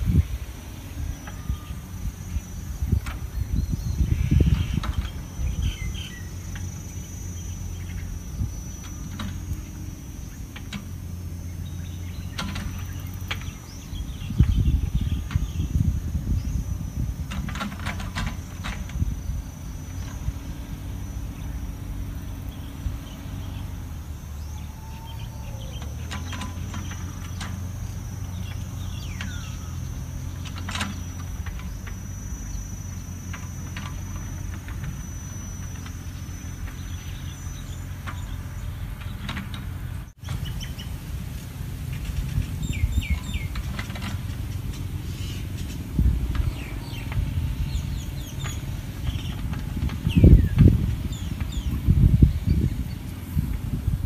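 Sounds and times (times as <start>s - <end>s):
low outdoor rumble: 0.0s - 54.0s
small birds chirping: 0.0s - 54.0s.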